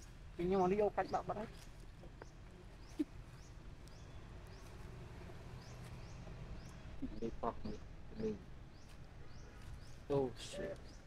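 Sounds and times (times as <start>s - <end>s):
bird chirping: 0.0s - 11.0s
low outdoor background: 0.0s - 11.0s.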